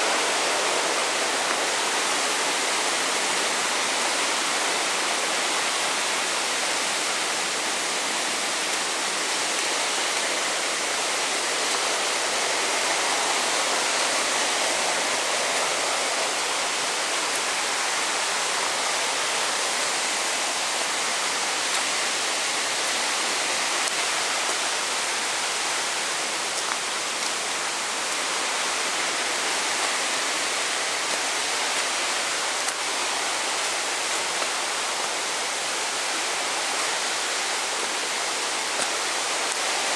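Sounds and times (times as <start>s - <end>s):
steady rushing noise: 0.0s - 39.9s.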